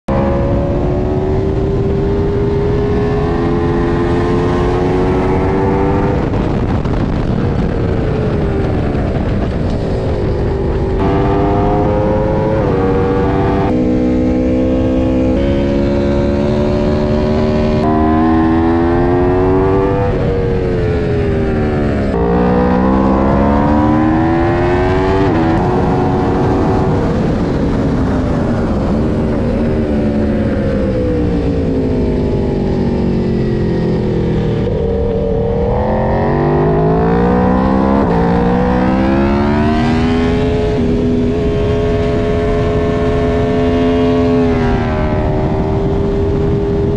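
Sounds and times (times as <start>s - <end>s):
motorcycle engine shifting gears: 0.0s - 46.9s
wind rush: 0.1s - 46.9s.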